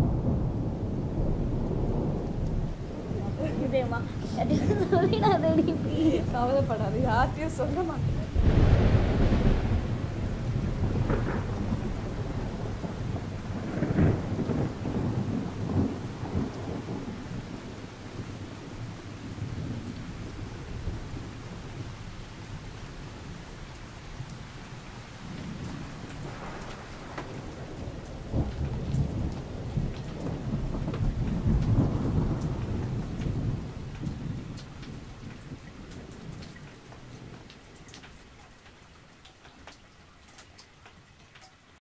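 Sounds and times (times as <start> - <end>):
rolling thunder: 0.0 - 37.7
rain falling: 0.0 - 41.8.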